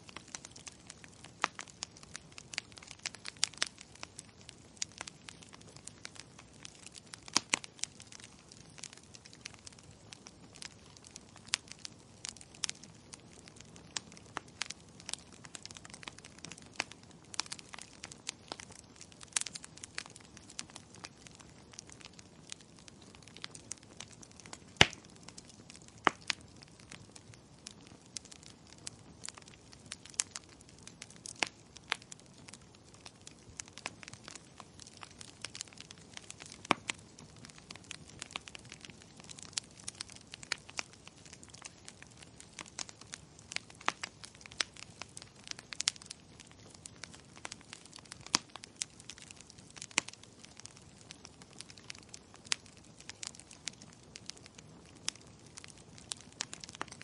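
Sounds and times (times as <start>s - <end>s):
low hiss of burning: 0.0s - 57.0s
wood fire crackling and popping: 0.0s - 57.0s.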